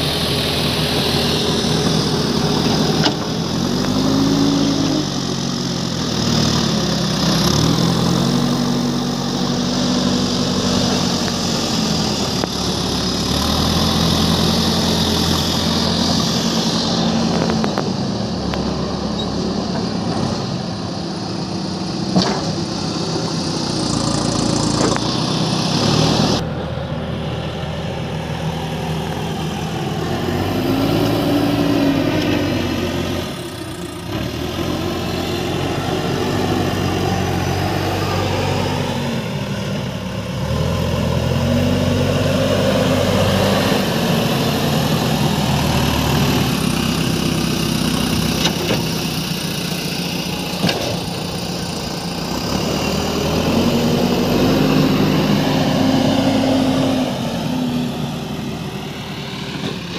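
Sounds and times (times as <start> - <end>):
diesel engine revving under load: 0.0 - 59.9.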